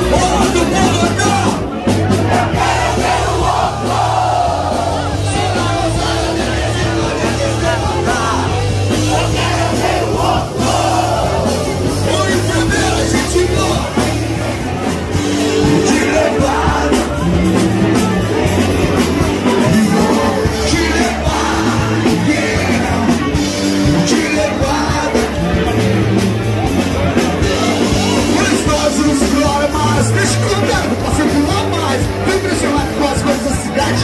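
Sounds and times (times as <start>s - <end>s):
rock band playing: 0.0s - 34.0s
person singing: 5.2s - 34.0s.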